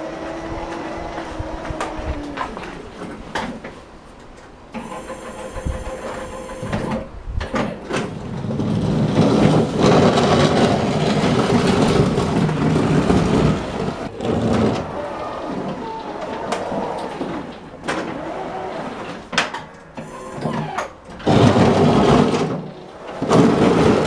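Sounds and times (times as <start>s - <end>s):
electric tractor mechanical rattle: 0.0s - 24.0s.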